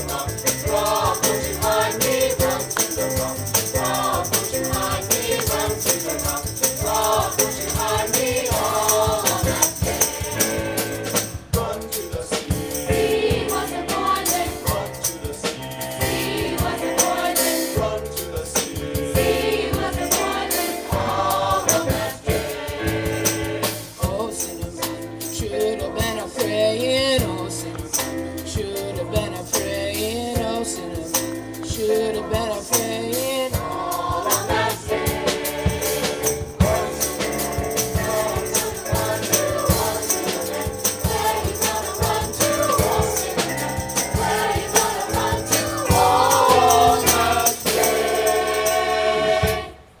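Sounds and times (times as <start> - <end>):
choir singing: 0.0 - 25.4, 32.2 - 50.0
rhythmic percussion: 0.0 - 49.8.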